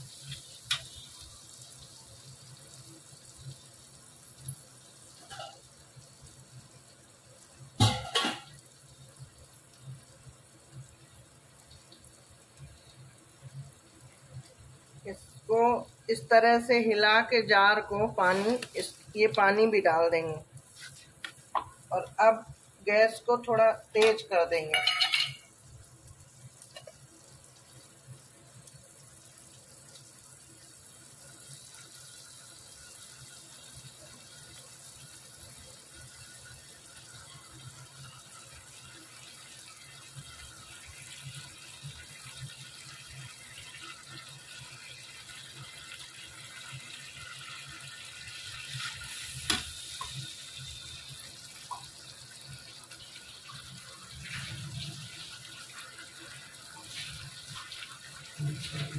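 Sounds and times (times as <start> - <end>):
paste sizzling in hot oil: 0.0 - 15.8, 18.0 - 58.9.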